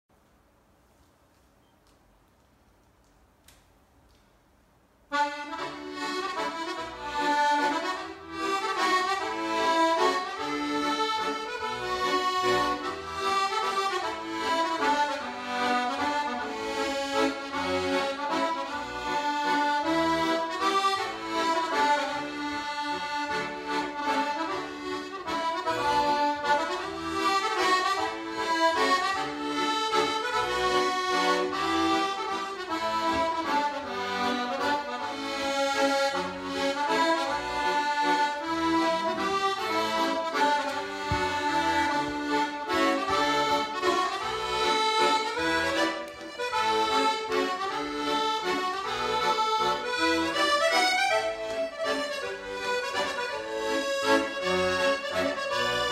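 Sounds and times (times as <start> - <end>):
accordion playing a tune: 5.1 - 55.9.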